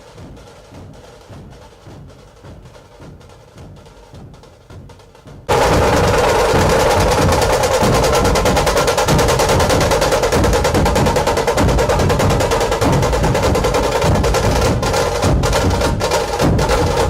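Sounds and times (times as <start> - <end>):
fast drum rolls: 0.0 - 17.0.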